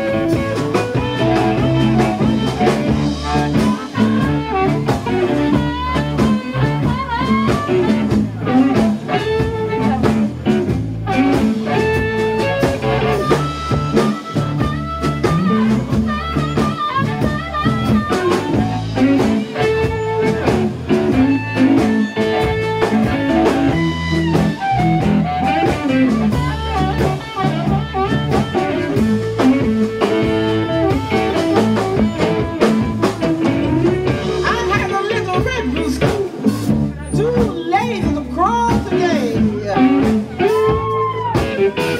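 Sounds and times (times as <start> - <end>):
amplified harmonica solo: 0.0 - 35.9
bass guitar: 0.0 - 41.9
drums: 0.0 - 41.9.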